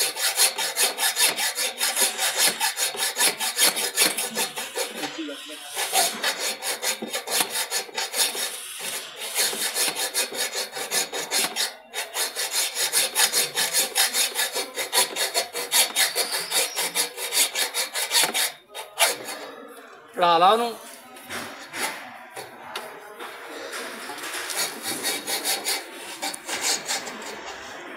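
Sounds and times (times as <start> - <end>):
hacksaw sawing metal: 0.0 - 19.6, 23.5 - 27.6.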